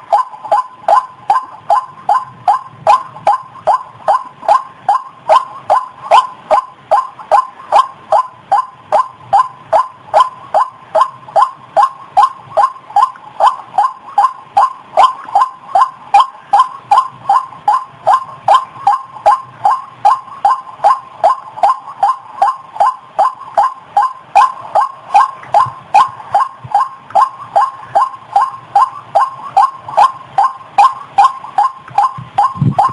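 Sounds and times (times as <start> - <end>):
waterhen calling: 0.0 - 32.9.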